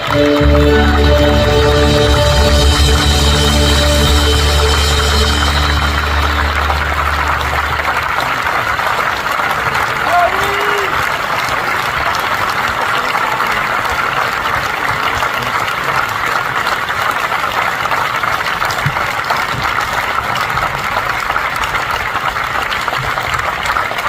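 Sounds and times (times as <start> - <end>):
concert audience applauding: 0.0 - 24.0.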